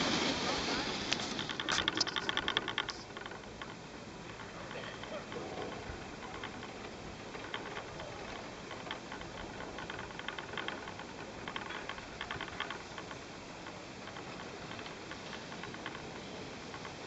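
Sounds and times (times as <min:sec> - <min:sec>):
chairlift clicking and rattling: 0:00.0 - 0:17.0
steady hiss: 0:00.0 - 0:17.0.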